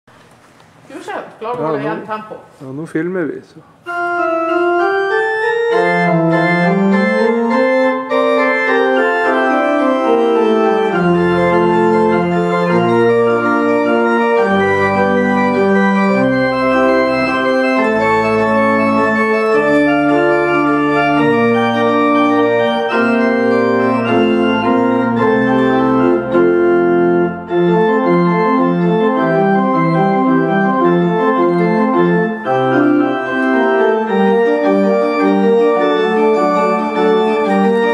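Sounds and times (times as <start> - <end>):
pipe organ playing: 3.8 - 37.9.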